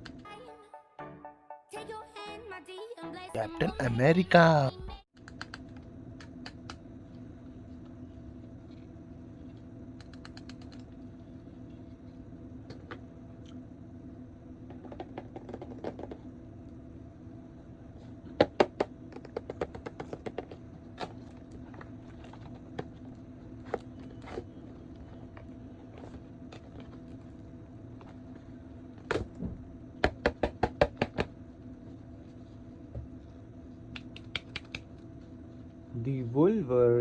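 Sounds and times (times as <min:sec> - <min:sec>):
steady low hum: 0:03.4 - 0:37.0.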